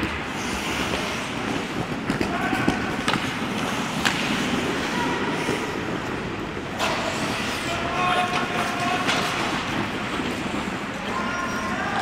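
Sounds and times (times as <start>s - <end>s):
skate blades on ice: 0.0s - 12.0s.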